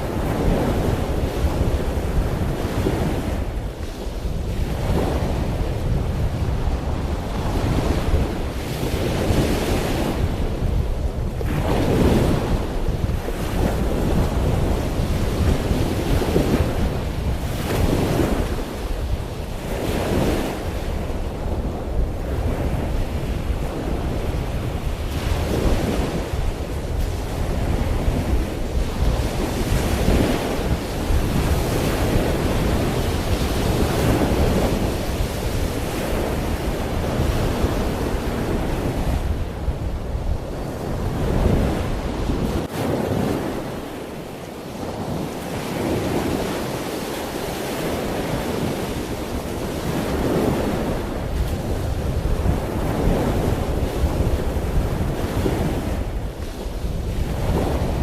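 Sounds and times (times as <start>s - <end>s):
ocean waves breaking: 0.0s - 58.0s
wind buffeting microphone: 0.0s - 58.0s.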